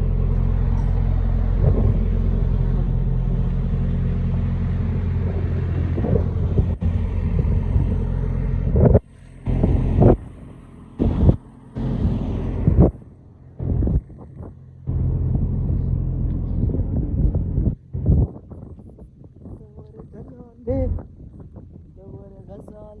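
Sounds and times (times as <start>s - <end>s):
truck engine droning: 0.0s - 23.0s.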